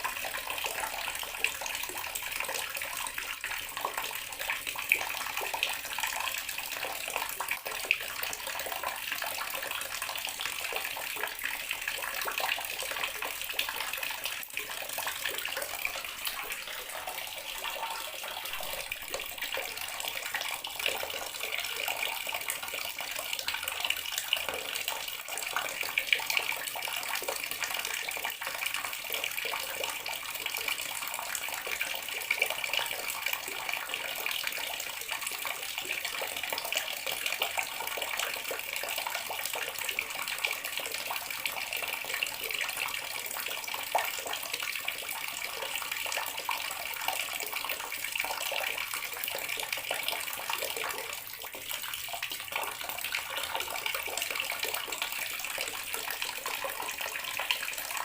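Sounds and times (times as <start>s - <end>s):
water tap running into basin: 0.0s - 58.0s.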